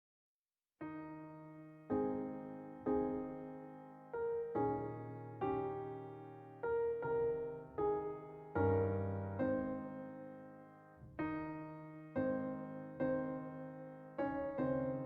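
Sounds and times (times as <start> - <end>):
slow gentle piano chords: 0.8 - 15.0.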